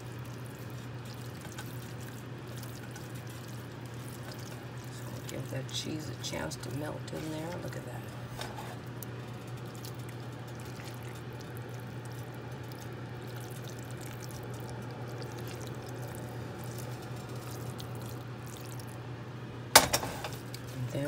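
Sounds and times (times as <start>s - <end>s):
spatula stirring meat in skillet: 0.0s - 18.9s
steady low hum: 0.0s - 21.0s.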